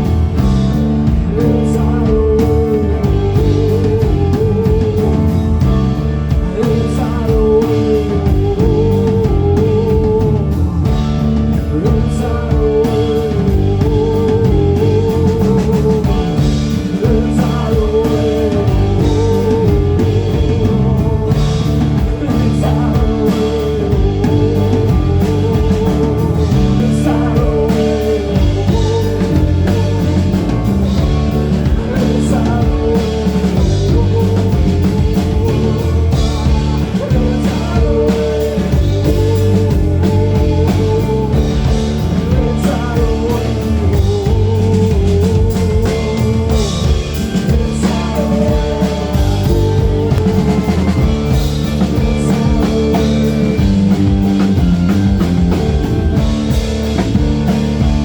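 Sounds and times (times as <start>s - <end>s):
rock band playing live: 0.0s - 58.0s
sung or lead line: 0.0s - 58.0s.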